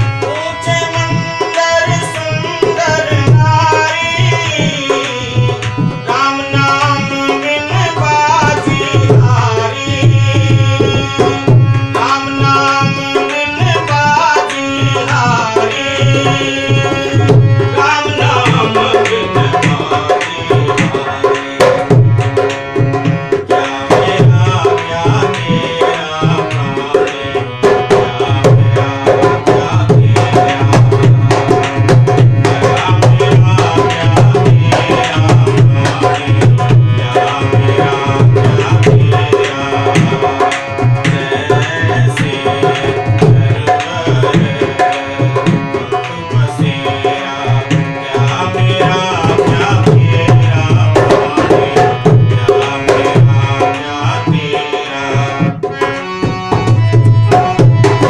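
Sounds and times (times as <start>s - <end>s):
tabla rhythm: 0.0s - 58.0s.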